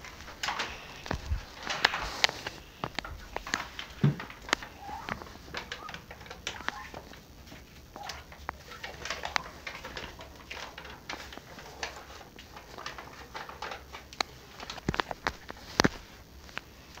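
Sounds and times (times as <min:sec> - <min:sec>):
clicks knocks and rustling: 0:00.0 - 0:17.0.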